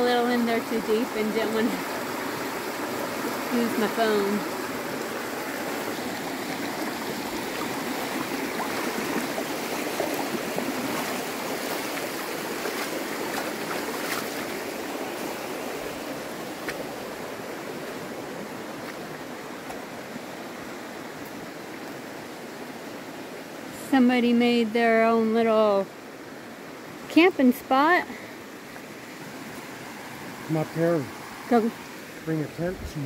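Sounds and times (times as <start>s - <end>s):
creek water over rocks: 0.0s - 33.0s.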